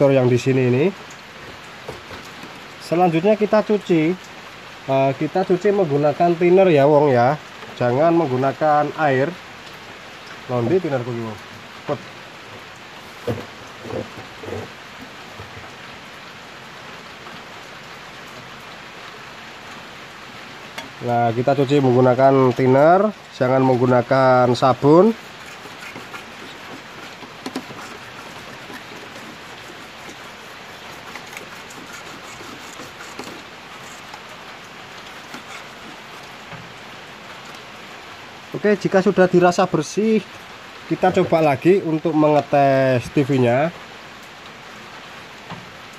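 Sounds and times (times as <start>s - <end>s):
light rain falling: 0.0s - 45.9s.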